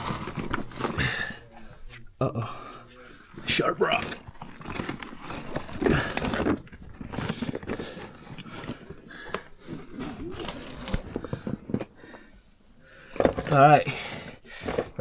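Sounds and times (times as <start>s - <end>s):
body scraping against rock: 0.0s - 15.0s.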